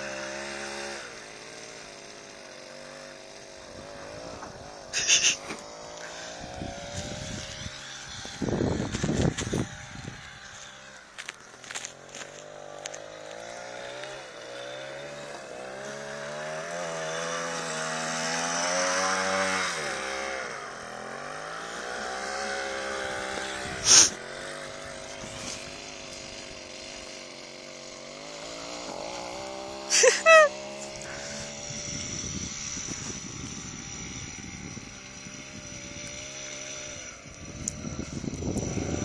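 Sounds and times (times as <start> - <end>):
go-kart engine revving: 0.0 - 39.0.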